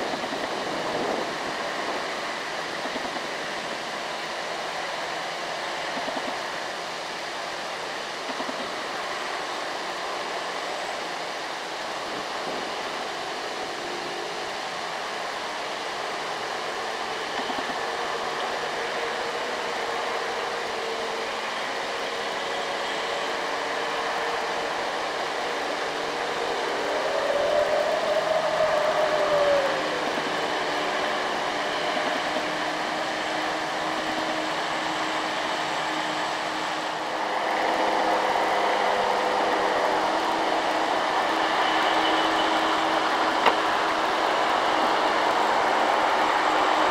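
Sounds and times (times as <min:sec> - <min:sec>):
road noise: 0:00.0 - 0:46.9.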